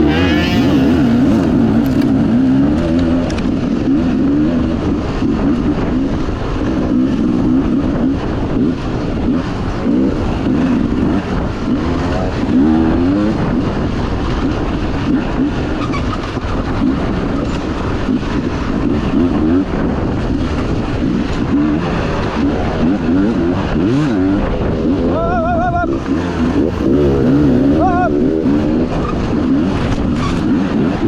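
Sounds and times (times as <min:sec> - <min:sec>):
dirt bike engine revving: 0:00.0 - 0:31.0
wind and riding noise: 0:00.0 - 0:31.0.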